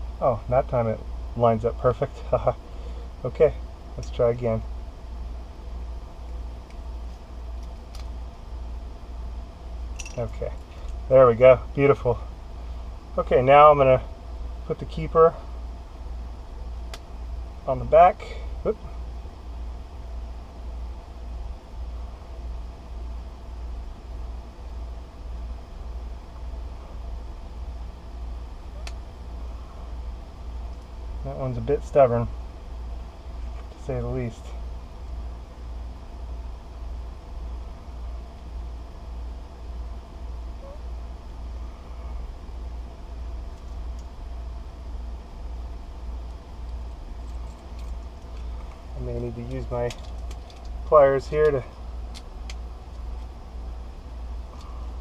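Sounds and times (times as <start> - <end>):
low machinery hum: 0.0 - 55.0.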